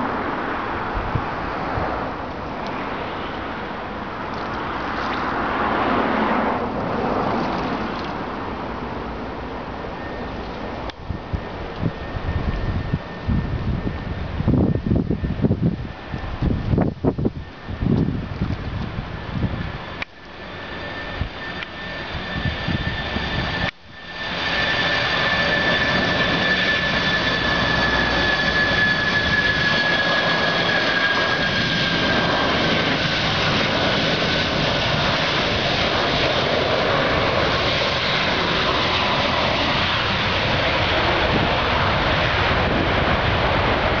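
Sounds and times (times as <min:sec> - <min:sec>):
jet engines roaring with whine: 0:00.0 - 0:44.0.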